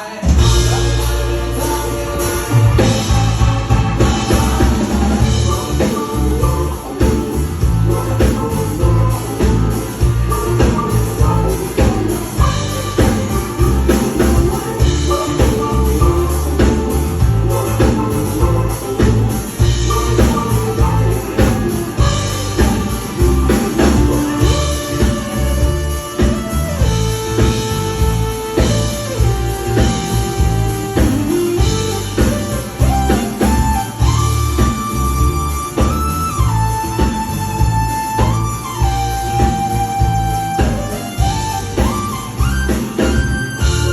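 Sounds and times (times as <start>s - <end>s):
bass guitar: 0.0s - 43.9s
cymbals: 0.0s - 43.9s
drums: 0.0s - 43.9s
person singing: 0.0s - 43.9s
rock band playing: 0.0s - 43.9s
sliding lead melody: 0.0s - 43.9s.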